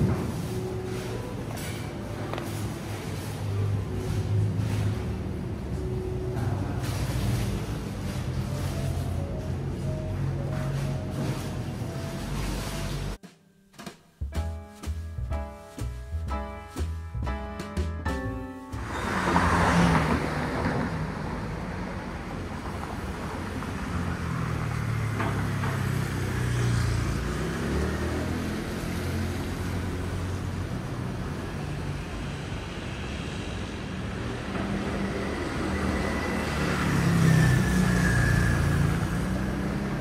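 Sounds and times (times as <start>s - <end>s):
cars passing on street: 0.0s - 13.2s, 17.5s - 40.0s.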